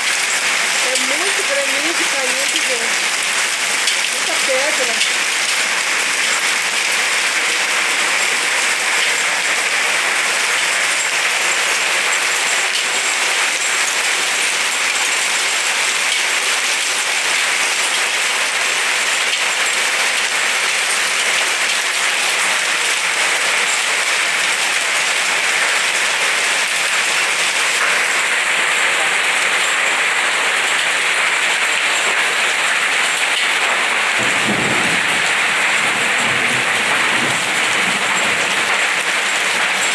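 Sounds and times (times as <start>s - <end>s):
heavy hail falling: 0.0s - 28.4s, 32.5s - 39.9s.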